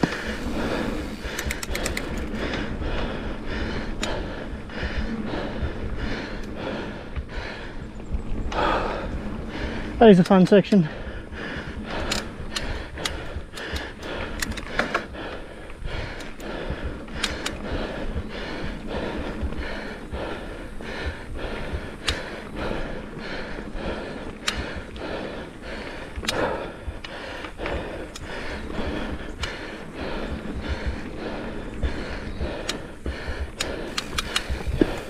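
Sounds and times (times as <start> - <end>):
bike clicking and rattling: 0.0 - 35.0
bike tyres rumbling on dirt: 0.0 - 35.0.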